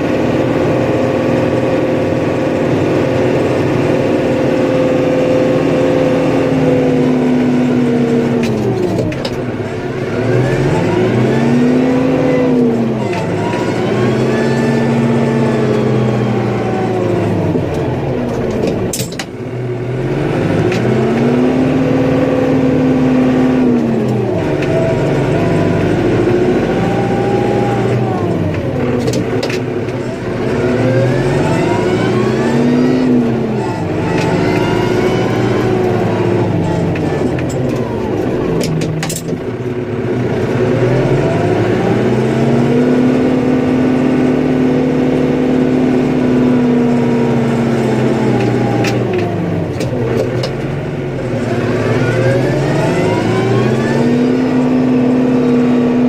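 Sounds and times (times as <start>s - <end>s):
snowplow engine revving: 0.0s - 56.0s.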